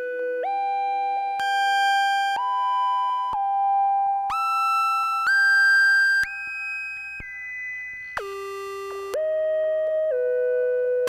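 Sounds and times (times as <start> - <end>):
synthesizer whistle-like notes: 0.0 - 11.0.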